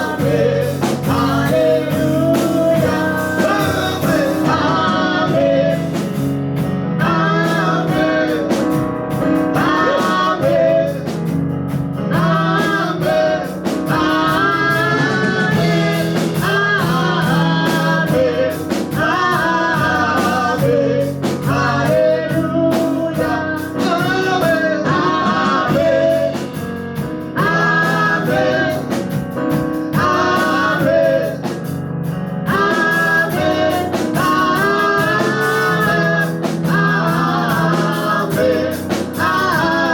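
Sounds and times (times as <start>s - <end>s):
band with guitar: 0.0s - 39.9s
voices singing: 0.0s - 39.9s.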